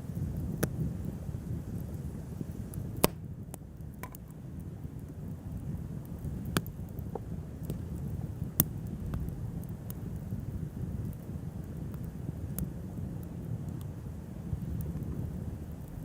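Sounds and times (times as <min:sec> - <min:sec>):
bonfire rumbling: 0:00.0 - 0:16.0
fire crackles and pops: 0:00.0 - 0:16.0.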